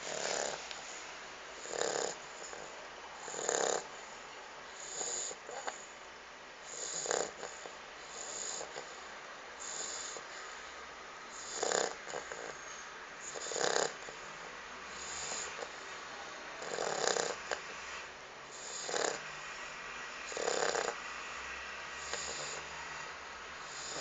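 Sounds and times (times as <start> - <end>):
dog snoring: 0.0 - 1.0, 1.6 - 5.9, 6.6 - 10.7, 11.3 - 14.3, 14.9 - 15.8, 16.6 - 19.6, 20.2 - 24.0.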